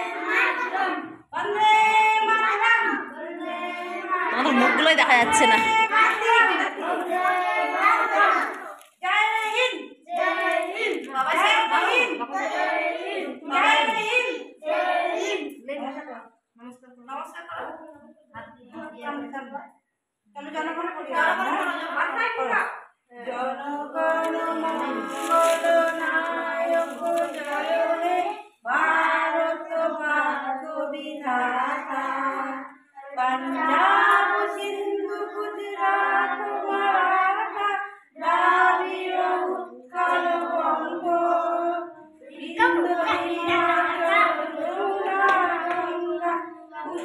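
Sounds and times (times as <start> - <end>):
woman and children singing: 0.0 - 16.0, 20.4 - 47.0.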